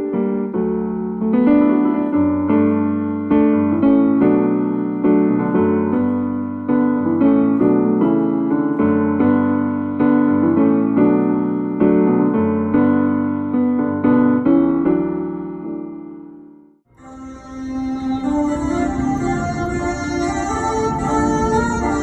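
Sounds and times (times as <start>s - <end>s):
electric piano chords and melody: 0.0s - 22.0s.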